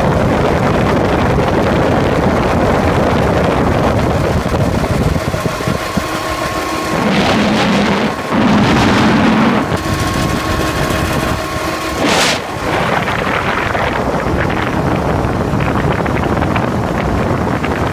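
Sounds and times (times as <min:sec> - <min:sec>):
loud rush of noise: 0:00.0 - 0:17.9
wind noise on microphone: 0:00.0 - 0:17.9
old car engine exhaust rattle: 0:00.2 - 0:17.9.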